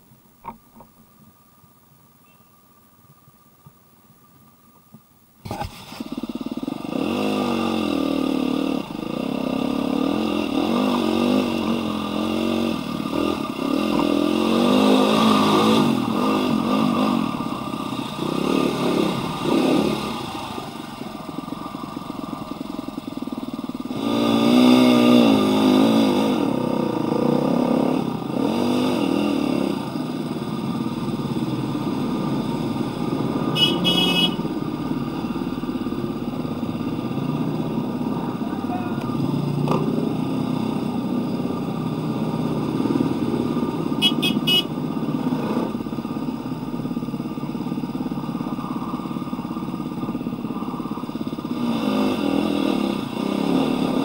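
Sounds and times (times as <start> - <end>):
dirt bike engine revving: 5.5 - 54.0.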